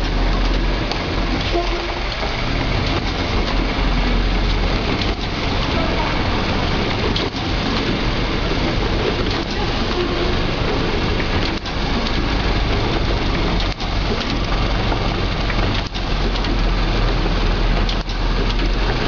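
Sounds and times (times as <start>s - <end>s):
stitching machine running: 0.0s - 19.0s.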